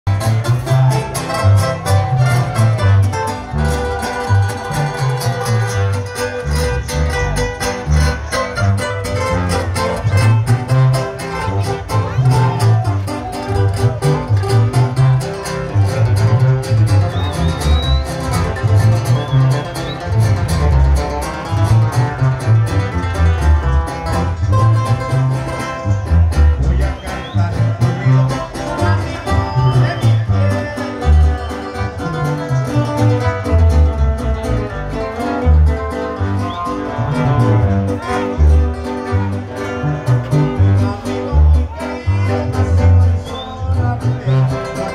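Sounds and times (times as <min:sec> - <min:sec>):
tuba bass line: 0:00.0 - 0:44.9
live band playing: 0:00.1 - 0:44.9
strummed acoustic guitars: 0:00.1 - 0:44.9.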